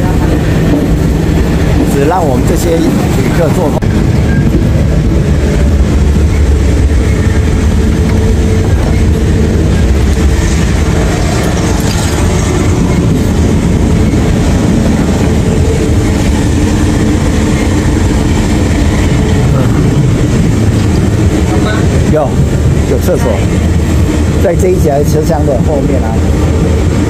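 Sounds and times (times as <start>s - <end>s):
train rumbling and rattling: 0.0s - 27.0s.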